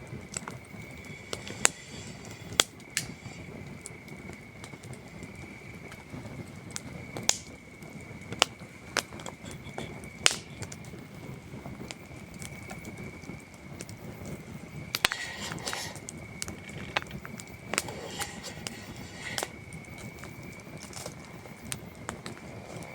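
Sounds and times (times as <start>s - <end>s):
campfire wood crackling: 0.0s - 22.9s
crickets trilling: 0.0s - 22.9s.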